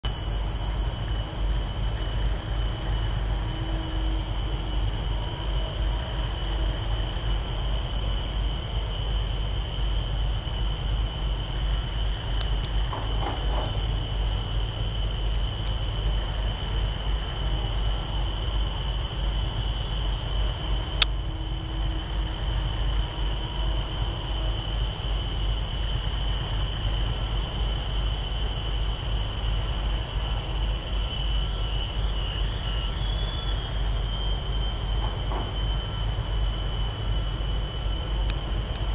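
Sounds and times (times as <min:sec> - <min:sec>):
high-pitched whine: 0:00.0 - 0:38.9.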